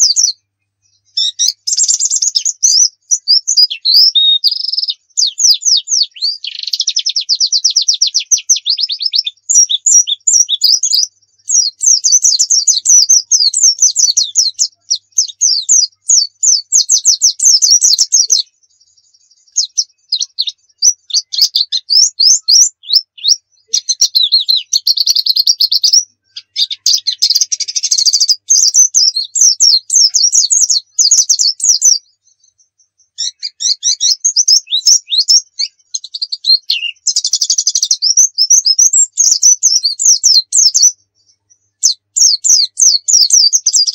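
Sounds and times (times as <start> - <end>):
bird singing high trills: 0.0 - 43.9.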